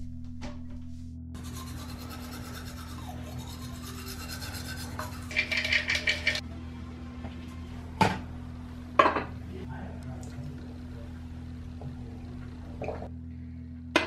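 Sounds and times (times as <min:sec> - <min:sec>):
low drone: 0:00.0 - 0:13.9.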